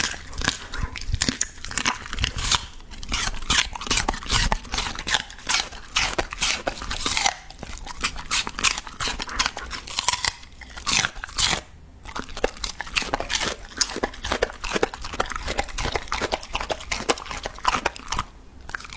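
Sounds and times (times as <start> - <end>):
dog crunching vegetables: 0.0 - 18.9
dog lip-smacking: 0.0 - 18.9.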